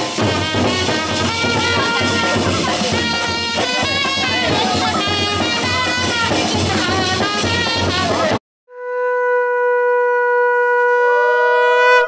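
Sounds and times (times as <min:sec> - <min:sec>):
music: 0:00.0 - 0:10.8
conch shell blown: 0:00.0 - 0:12.0.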